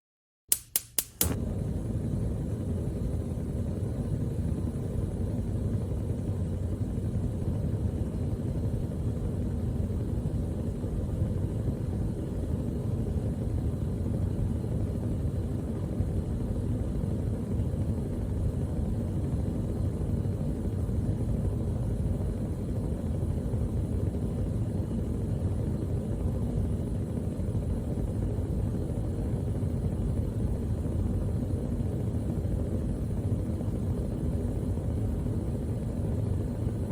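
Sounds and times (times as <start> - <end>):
gas burner flame rumbling: 0.6 - 36.9.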